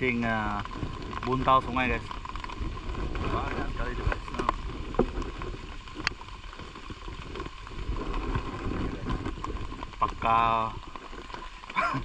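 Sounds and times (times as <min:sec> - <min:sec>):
rain on water and boat: 0:00.0 - 0:12.0.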